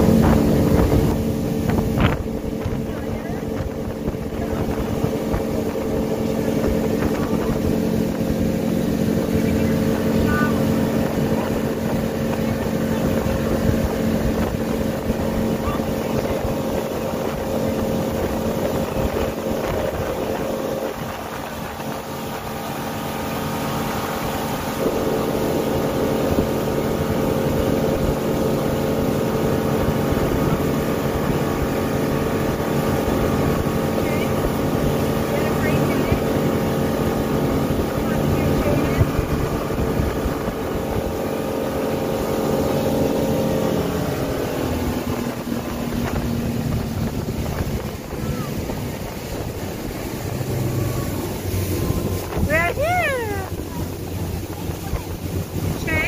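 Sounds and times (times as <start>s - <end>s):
outboard motor drone: 0.0s - 56.0s
water rushing past hull: 0.0s - 56.0s.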